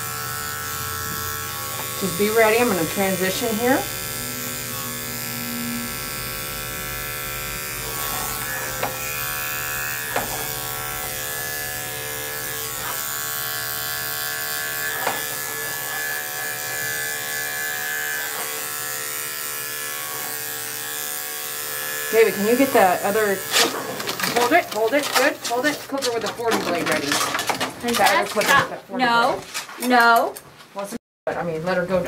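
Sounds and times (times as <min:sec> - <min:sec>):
electric clippers running: 0:00.0 - 0:28.1.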